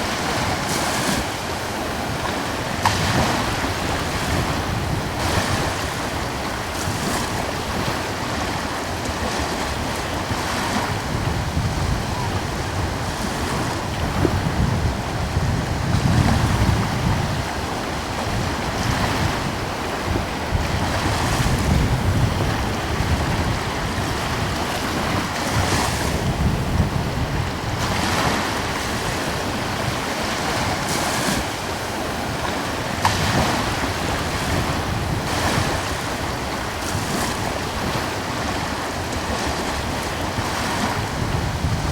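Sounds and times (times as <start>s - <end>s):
ocean waves breaking on shore: 0.0s - 41.9s
steady wind: 0.0s - 41.9s.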